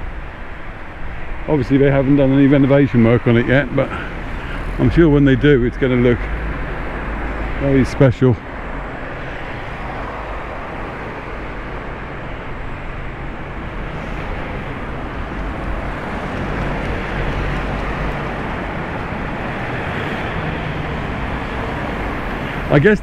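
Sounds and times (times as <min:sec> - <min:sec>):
cars driving along street: 0:00.0 - 0:23.0.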